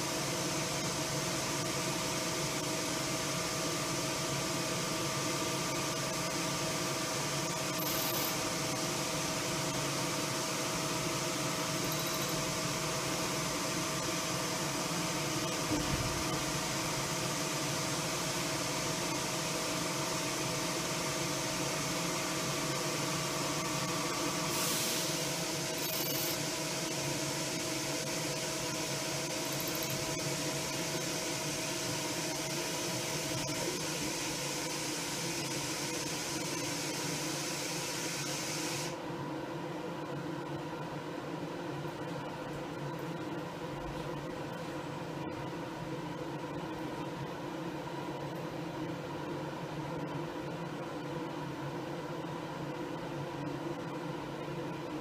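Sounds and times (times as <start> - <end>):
machine hum with whine: 0.0 - 55.0.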